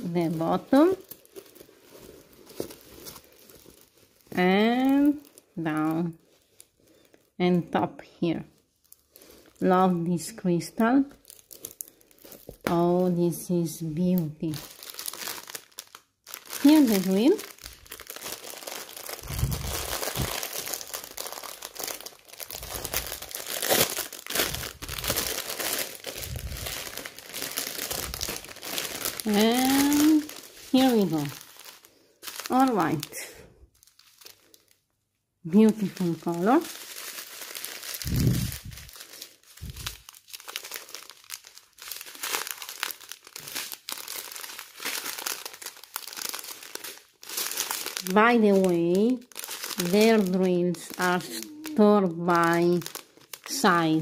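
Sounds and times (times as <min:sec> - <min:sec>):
plastic packaging crinkling: 0:00.0 - 0:07.4, 0:08.5 - 0:09.9, 0:10.8 - 0:54.0.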